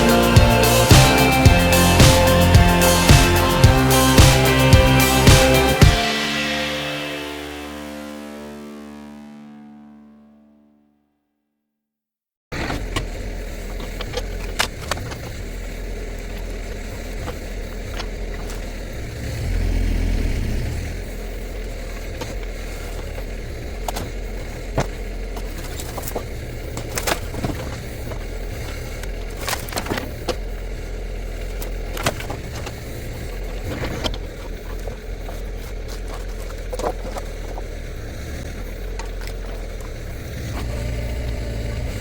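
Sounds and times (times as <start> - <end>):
excavator diesel engine running: 0.0 - 8.2, 12.8 - 42.0.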